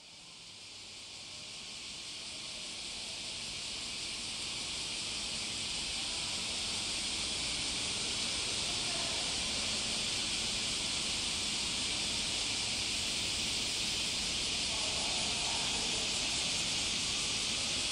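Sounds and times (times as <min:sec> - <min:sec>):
steady high-pitched hiss: 0:00.0 - 0:17.9.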